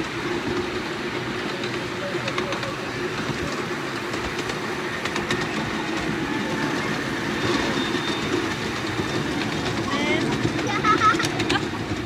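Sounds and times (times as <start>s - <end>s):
train wagons rattling on track: 0.0s - 12.0s
wheels clicking: 0.0s - 12.0s.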